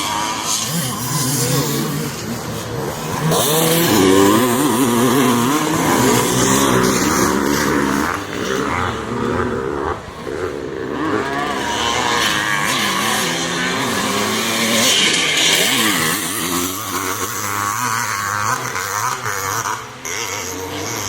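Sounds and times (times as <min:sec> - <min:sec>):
motocross bikes revving: 0:00.0 - 0:21.0.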